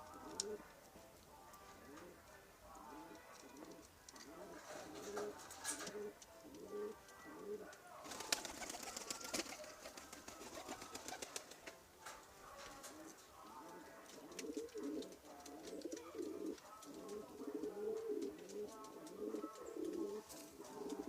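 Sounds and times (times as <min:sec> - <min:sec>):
pigeons cooing: 0:00.0 - 0:00.7, 0:02.8 - 0:11.4, 0:12.8 - 0:21.0.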